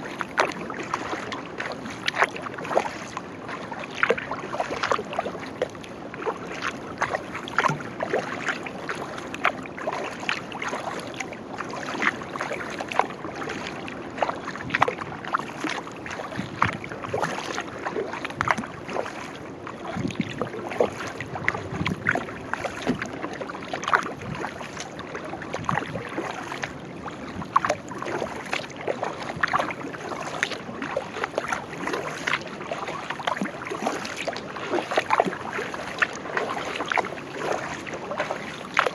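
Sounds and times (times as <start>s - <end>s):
moving water wash: 0.0s - 38.9s
paddle splashes and drips: 0.0s - 38.9s.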